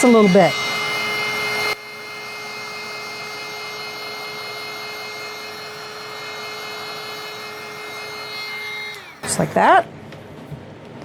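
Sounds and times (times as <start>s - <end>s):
heat gun blowing: 0.0s - 9.8s.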